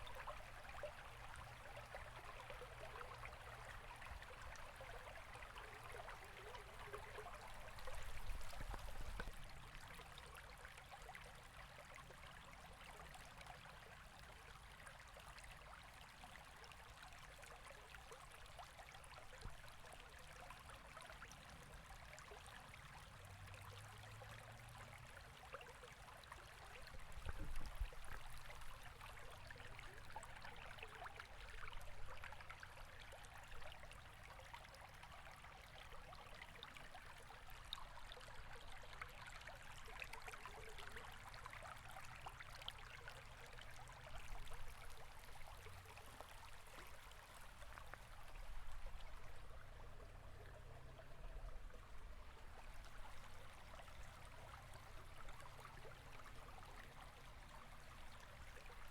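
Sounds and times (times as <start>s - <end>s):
river water gurgling: 0.0s - 58.9s.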